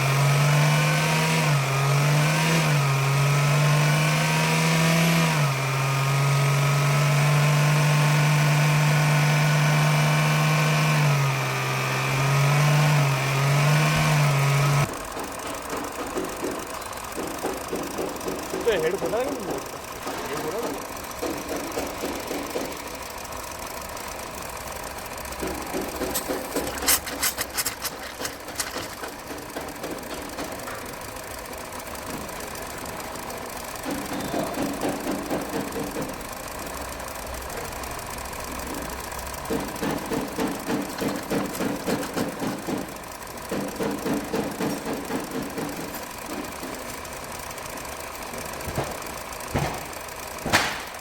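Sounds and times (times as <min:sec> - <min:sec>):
car engine running: 0:00.0 - 0:51.0
engine knocking clatter: 0:00.0 - 0:51.0.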